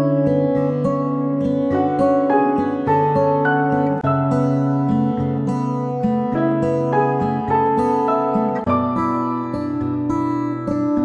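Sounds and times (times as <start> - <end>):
instrumental background music: 0.0 - 10.1.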